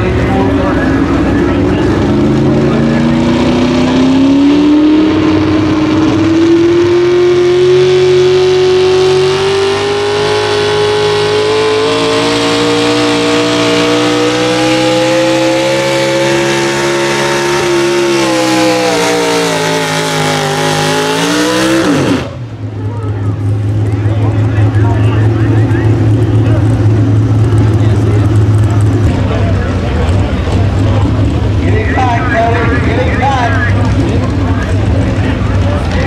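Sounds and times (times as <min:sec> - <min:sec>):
truck engine revving high: 0:00.0 - 0:36.0.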